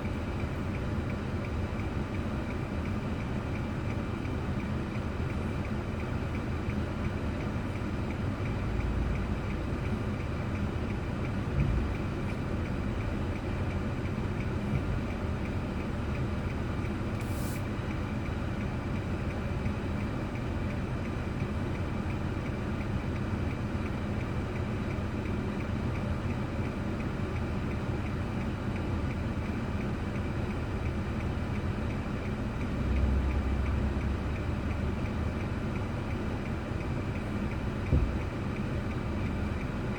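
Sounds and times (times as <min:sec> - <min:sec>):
car engine and tyre drone: 0:00.1 - 0:39.9.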